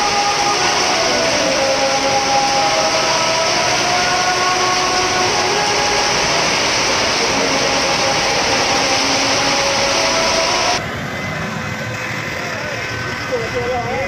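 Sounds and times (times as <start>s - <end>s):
tyres hissing on wet road: 0.0s - 14.0s.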